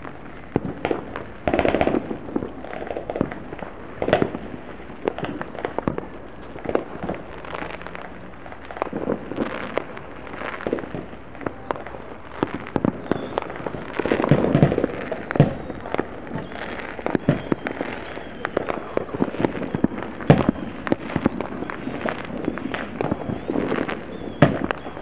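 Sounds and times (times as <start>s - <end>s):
distant fireworks popping and banging: 0.0s - 25.0s
firecrackers crackling: 0.0s - 25.0s.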